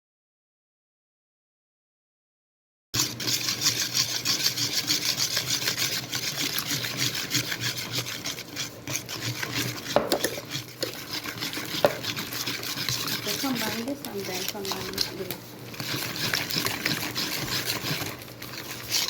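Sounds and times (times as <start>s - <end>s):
rhythmic scraping: 3.0s - 19.0s.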